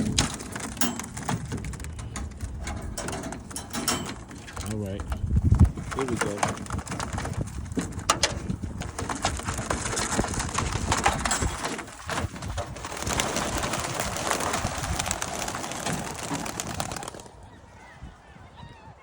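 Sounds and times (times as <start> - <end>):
pigeon wings flapping: 0.0 - 17.5.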